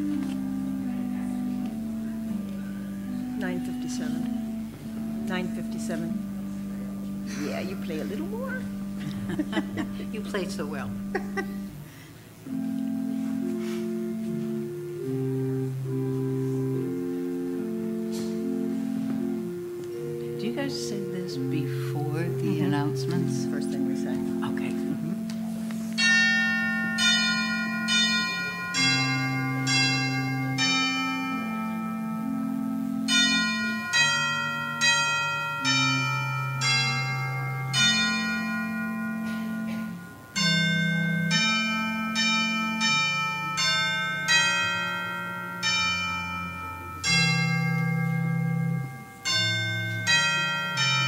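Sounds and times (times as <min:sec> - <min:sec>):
slow bell-like instrumental music: 0:00.0 - 0:51.0.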